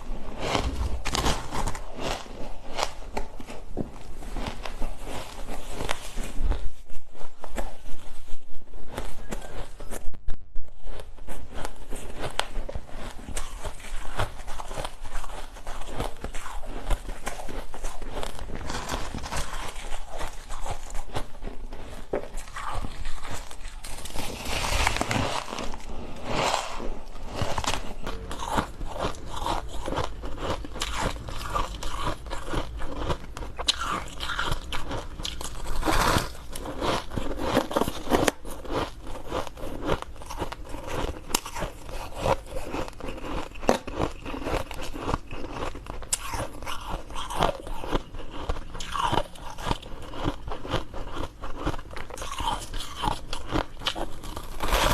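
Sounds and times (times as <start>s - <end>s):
ice being chewed: 0.0s - 10.1s, 10.7s - 54.9s.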